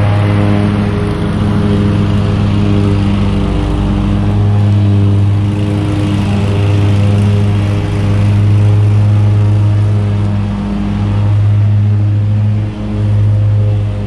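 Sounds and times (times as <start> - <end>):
small engine running under load: 0.0 - 14.0.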